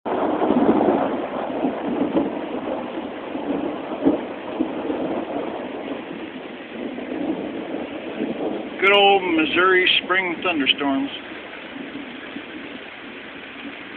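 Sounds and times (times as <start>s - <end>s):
wind: 0.0s - 13.9s
rain: 0.1s - 13.9s.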